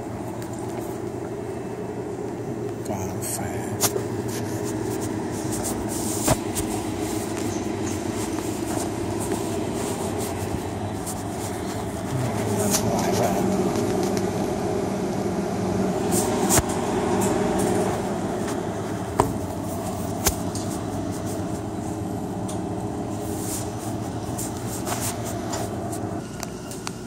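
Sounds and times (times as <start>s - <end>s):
drink coolers humming: 0.0s - 27.0s.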